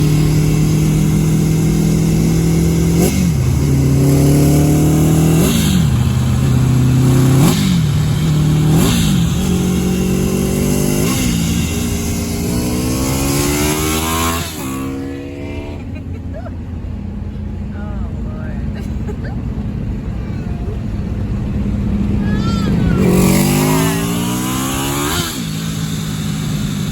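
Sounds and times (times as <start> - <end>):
motorcycle accelerating through gears: 0.0 - 16.0, 20.8 - 26.9.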